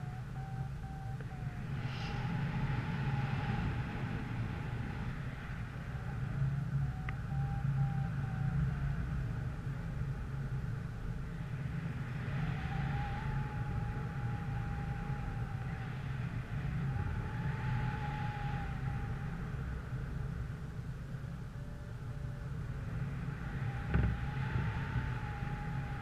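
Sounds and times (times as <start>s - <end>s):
thin steady whine: 0.0s - 26.0s
vehicle low rumble: 0.0s - 26.0s
wind buffeting microphone: 0.0s - 26.0s.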